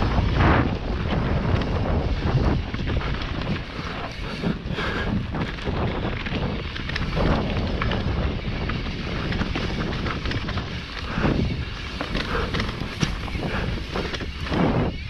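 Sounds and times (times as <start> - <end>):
bike knocking and rattling: 0.0 - 15.0
tyres on loose dirt: 0.0 - 15.0
wind buffeting microphone: 0.0 - 15.0.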